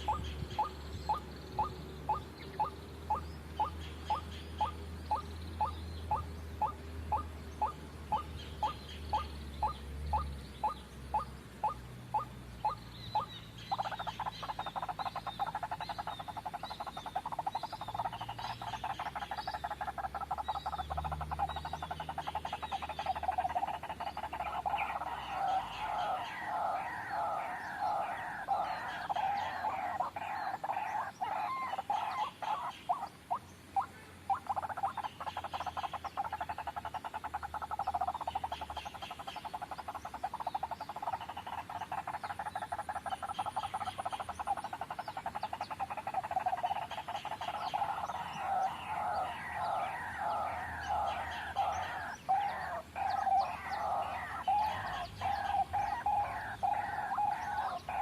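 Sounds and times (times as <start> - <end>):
waterhen harsh repeated calls: 0.0 - 58.0.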